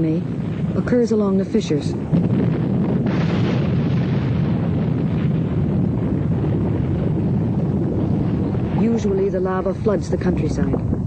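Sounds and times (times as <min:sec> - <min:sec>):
rushing burst: 0:00.0 - 0:10.2
volcanic eruption rumble: 0:00.0 - 0:11.0.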